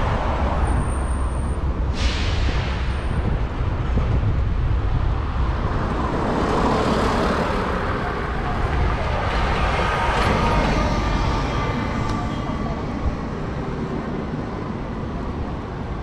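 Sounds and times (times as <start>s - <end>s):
city street traffic: 0.0s - 16.0s
wind rumble on microphone: 0.0s - 16.0s.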